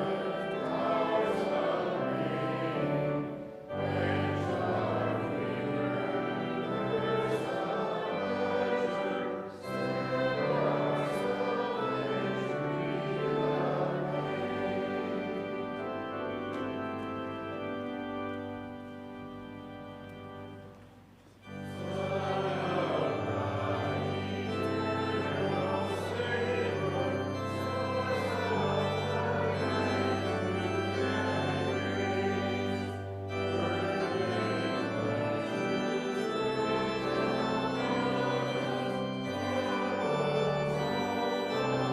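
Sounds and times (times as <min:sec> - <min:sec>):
group singing a hymn: 0:00.0 - 0:16.7, 0:21.5 - 0:41.9
organ playing: 0:00.0 - 0:41.9.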